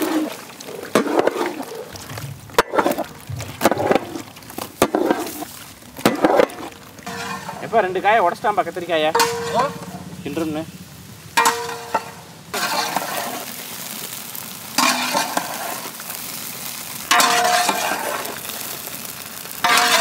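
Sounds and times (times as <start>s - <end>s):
vegetables frying in oil: 0.0s - 20.0s.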